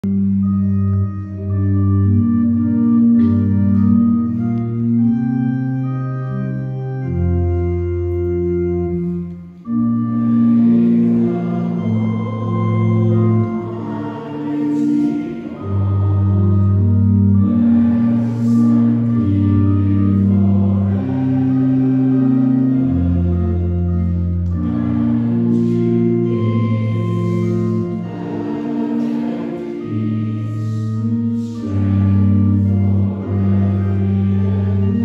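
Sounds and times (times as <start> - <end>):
pipe organ playing hymn: 0.0 - 35.0
congregation singing a hymn: 0.1 - 35.0.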